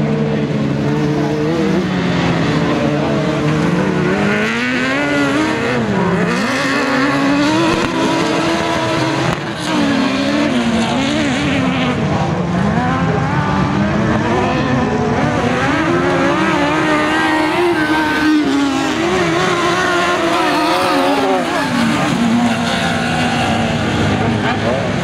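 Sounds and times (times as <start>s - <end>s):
buggy engines revving: 0.0s - 25.0s.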